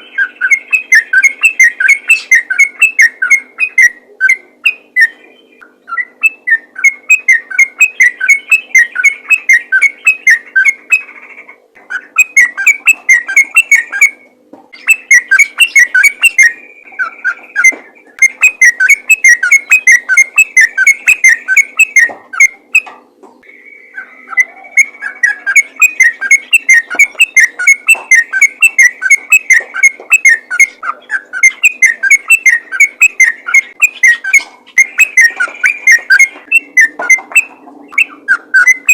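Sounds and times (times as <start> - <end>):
bird singing rapid notes: 0.0 - 38.9.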